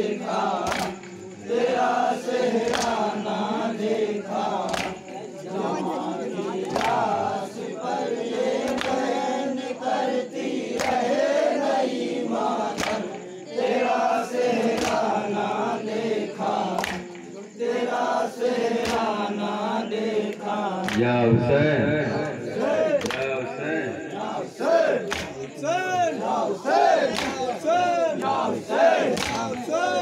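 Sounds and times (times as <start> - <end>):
men chanting a lament: 0.0 - 30.0.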